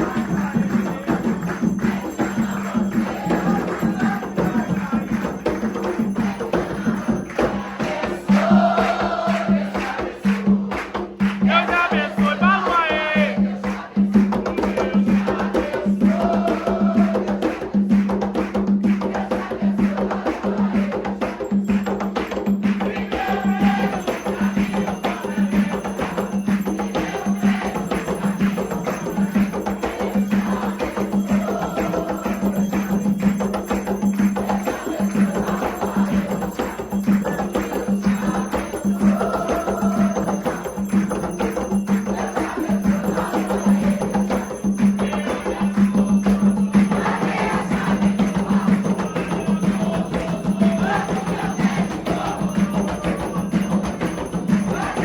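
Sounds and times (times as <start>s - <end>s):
bell or wood-block strikes: 0.0s - 55.0s
voices singing a chant: 0.0s - 55.0s.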